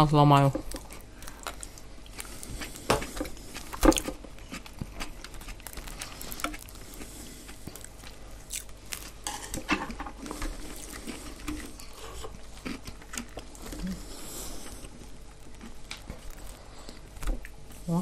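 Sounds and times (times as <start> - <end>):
crust cracking: 0.3 - 14.0, 14.6 - 17.6
bread crust crunching: 0.4 - 17.7.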